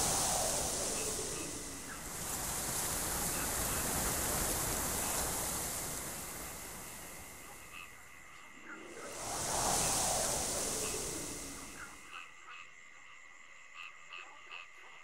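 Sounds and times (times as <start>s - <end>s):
steady rushing hiss: 0.0s - 12.3s.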